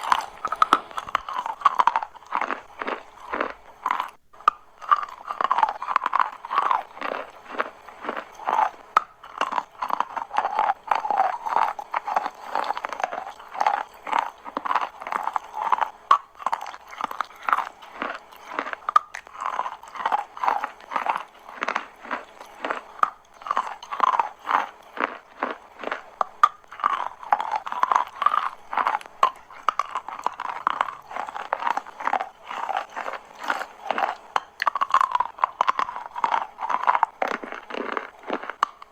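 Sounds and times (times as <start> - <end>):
chalk crunching being chewed: 0.0 - 38.9.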